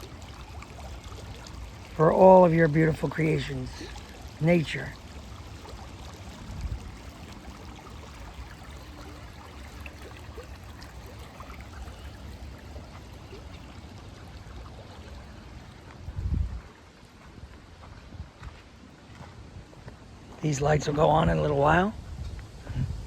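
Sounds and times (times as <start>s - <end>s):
running water rushing: 0.0s - 22.2s.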